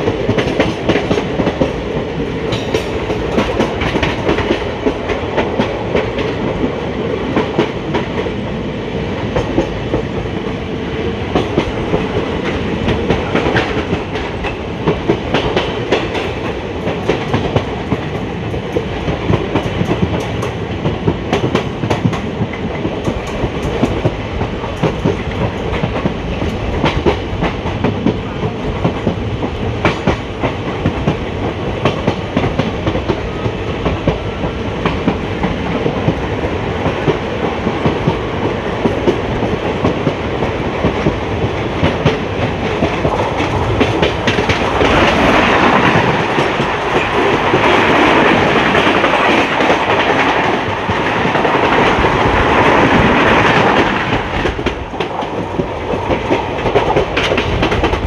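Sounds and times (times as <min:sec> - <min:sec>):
train rumble: 0:00.0 - 0:58.0
train wheels clattering: 0:00.0 - 0:58.0.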